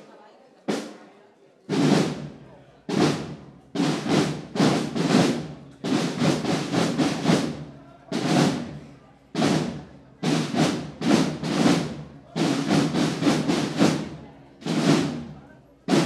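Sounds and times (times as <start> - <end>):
drums beaten loudly: 0.7 - 1.0, 1.7 - 16.0.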